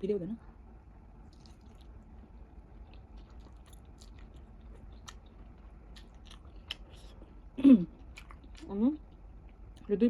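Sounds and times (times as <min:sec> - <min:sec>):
person chewing noodles: 0:01.2 - 0:09.9.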